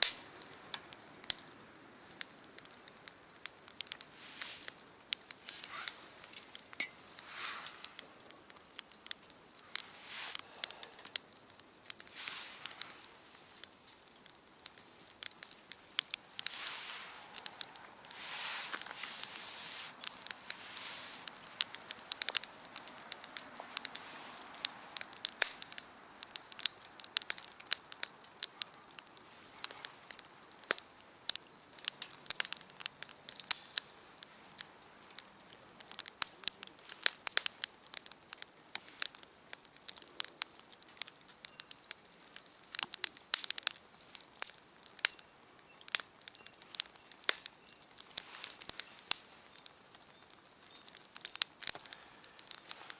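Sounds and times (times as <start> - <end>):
campfire crackling: 0.0 - 52.9
sharp pops and snaps of fire: 0.0 - 52.9
soft hiss of burning: 0.0 - 52.9.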